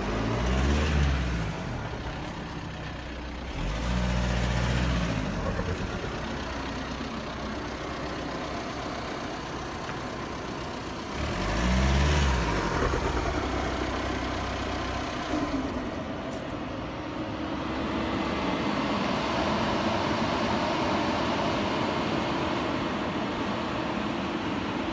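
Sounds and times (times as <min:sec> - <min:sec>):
diesel car engine running: 0:00.0 - 0:24.9.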